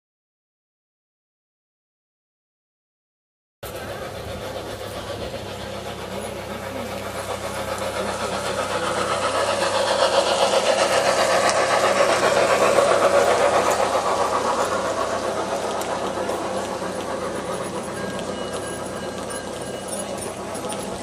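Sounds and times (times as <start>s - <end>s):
model steam locomotive running: 3.6s - 21.0s.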